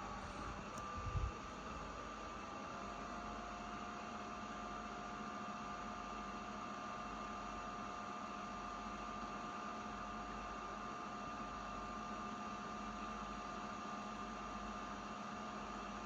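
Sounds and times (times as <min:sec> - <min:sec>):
microwave oven hum and fan: 0:00.0 - 0:16.0.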